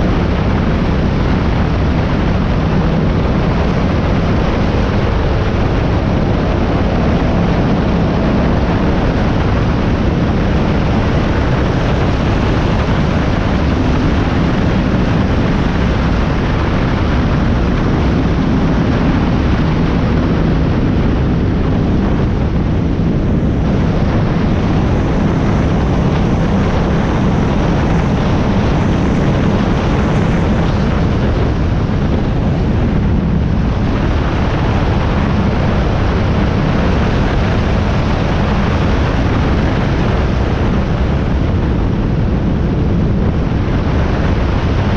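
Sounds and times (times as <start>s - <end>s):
powerboat engine roaring: 0.0s - 44.9s
wind on microphone: 0.0s - 44.9s.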